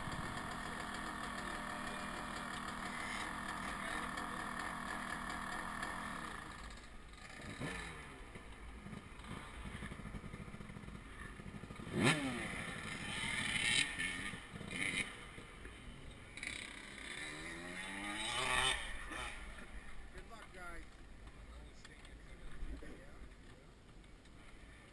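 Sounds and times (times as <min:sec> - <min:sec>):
dirt bike engines revving: 0:00.0 - 0:24.9.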